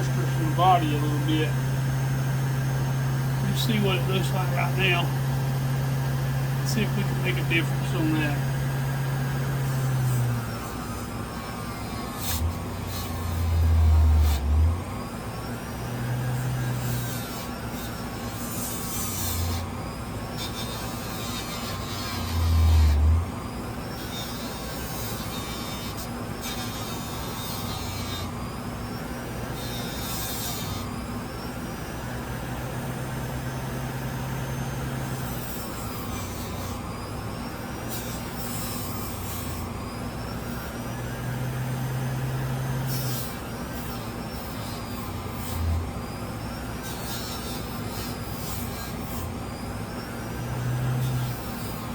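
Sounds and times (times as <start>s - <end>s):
bench grinder motor humming: 0.0s - 51.9s.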